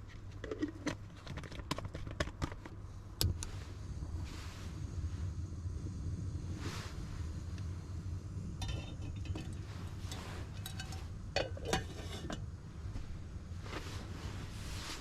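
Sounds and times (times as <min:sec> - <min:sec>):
low wind rumble: 0:03.0 - 0:15.0.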